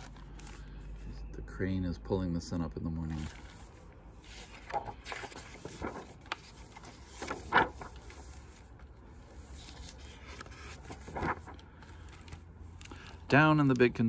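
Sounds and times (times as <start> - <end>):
book pages rustling and turning: 0.0 - 1.0, 3.0 - 14.0.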